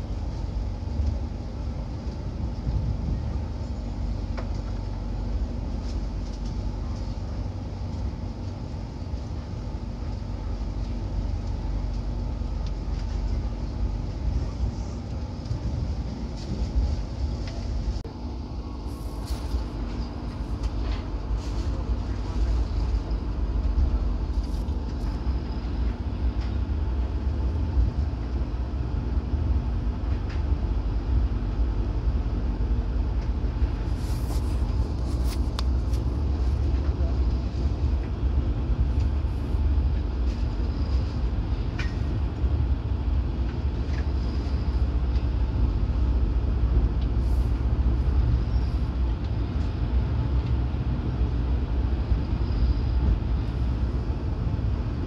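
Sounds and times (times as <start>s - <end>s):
train rumble from inside: 0.0s - 55.0s.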